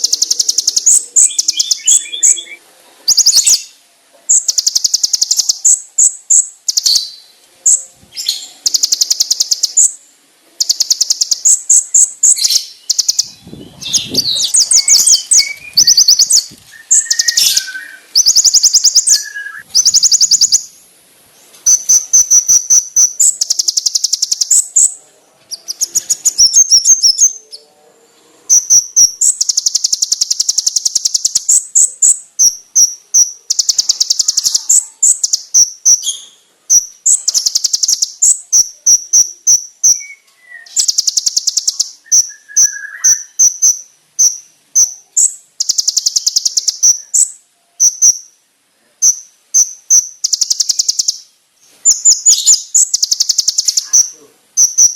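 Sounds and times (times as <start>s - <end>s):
bird high-pitched rapid trills: 0.0s - 3.7s, 4.3s - 10.0s, 10.6s - 20.8s, 21.6s - 27.5s, 28.5s - 48.4s, 49.0s - 51.3s, 51.9s - 54.9s
bird twittering: 0.0s - 10.0s, 10.6s - 20.8s, 21.6s - 27.7s, 28.5s - 48.4s, 49.0s - 54.9s.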